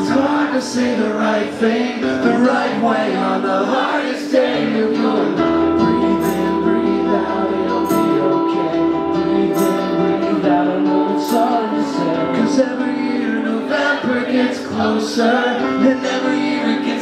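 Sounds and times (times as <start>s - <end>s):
electric guitar: 0.0s - 17.0s
man singing: 0.0s - 17.0s
strummed acoustic guitar: 0.0s - 17.0s.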